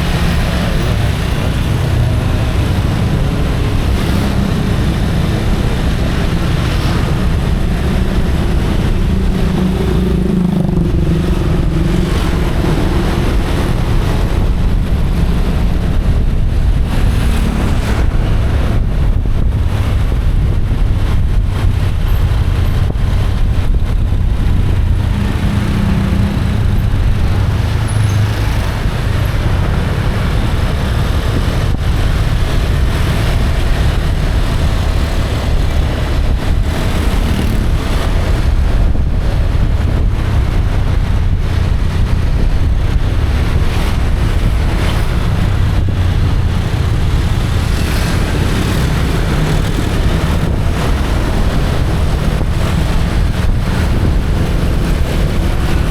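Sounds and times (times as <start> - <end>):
motorbike engine rumble: 0.0 - 55.9
traffic: 0.0 - 55.9
wind buffeting microphone: 0.0 - 55.9.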